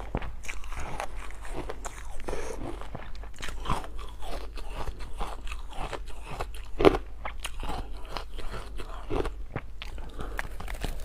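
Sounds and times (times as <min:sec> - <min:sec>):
ice being chewed: 0:00.0 - 0:11.0.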